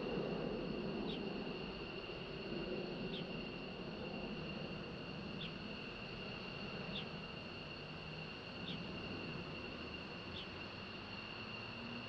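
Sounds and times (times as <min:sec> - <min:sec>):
distant jet engines rumbling: 0:00.0 - 0:12.0.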